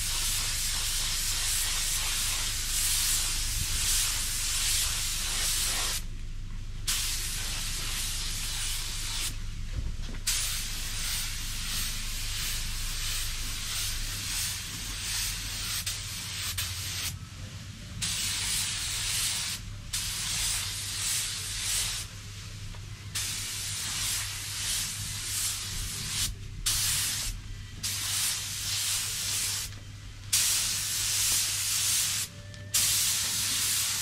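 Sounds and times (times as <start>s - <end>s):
spray gun hissing: 0.0s - 6.1s, 6.9s - 9.4s, 10.3s - 17.1s, 18.0s - 22.1s, 23.1s - 29.7s, 30.3s - 34.0s
steady low hum: 0.0s - 31.5s.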